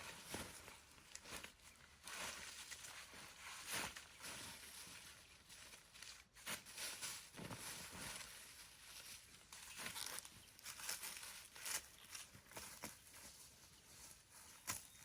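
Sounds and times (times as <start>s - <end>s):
dry plants rustling and crunching: 0.0s - 15.0s.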